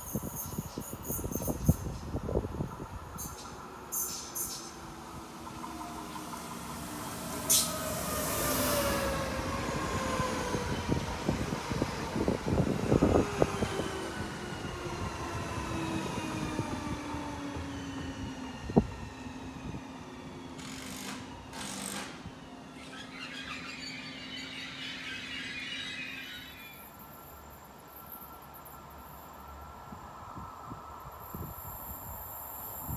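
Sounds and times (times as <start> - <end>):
steady train hum: 0.0 - 32.9.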